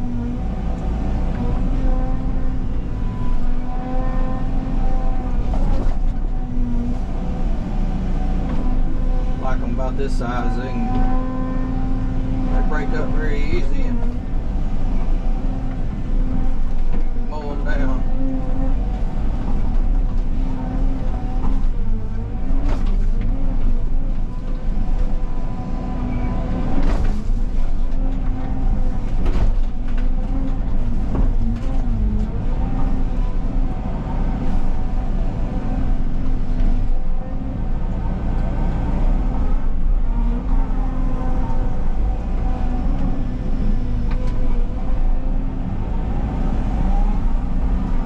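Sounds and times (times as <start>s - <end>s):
excavator diesel engine: 0.0s - 48.0s.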